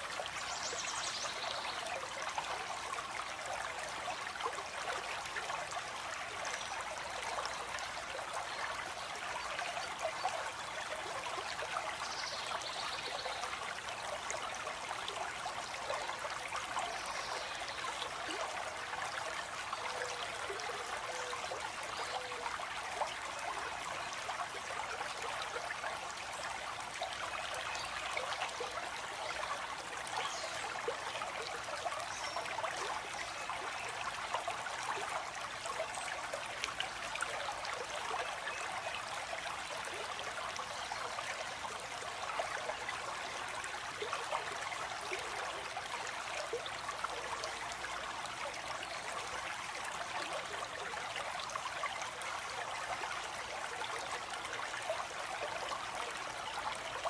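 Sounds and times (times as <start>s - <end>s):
stream water splashing and trickling: 0.0s - 57.0s.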